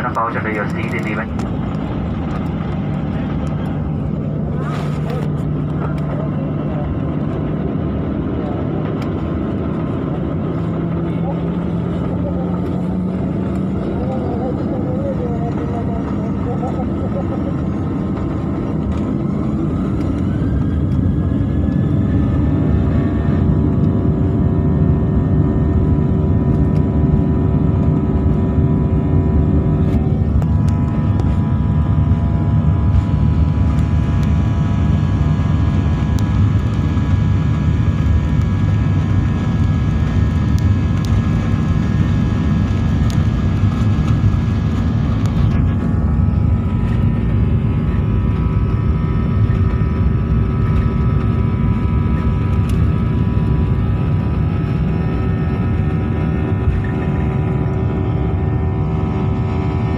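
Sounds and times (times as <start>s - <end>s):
loud rumble: 0.0s - 59.9s.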